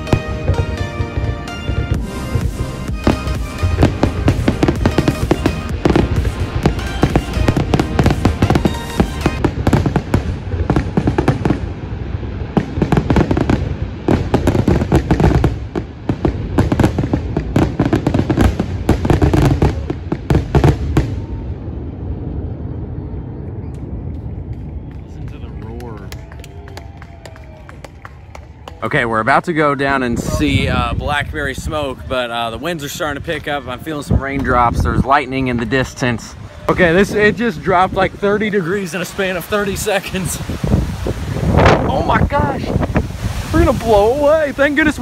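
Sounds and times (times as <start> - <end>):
fireworks booming and crackling: 0.0 - 28.8, 29.9 - 45.0.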